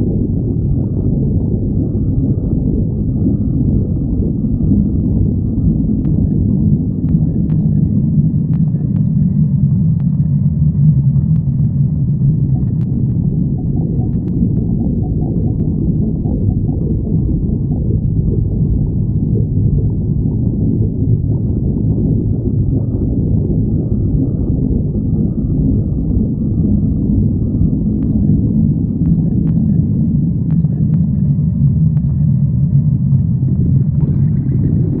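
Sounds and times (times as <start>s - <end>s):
stomach growling: 0.0s - 35.0s.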